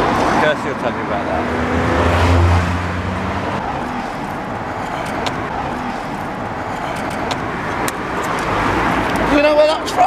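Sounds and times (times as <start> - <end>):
passing traffic rush: 0.0 - 10.0
vehicle engine hum: 0.0 - 10.0.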